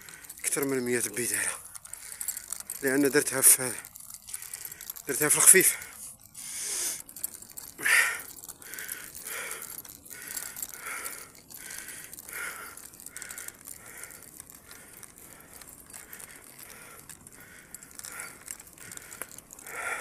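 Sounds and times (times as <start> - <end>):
cyclist panting hard: 1.7 - 2.8, 4.3 - 5.1, 5.7 - 20.0.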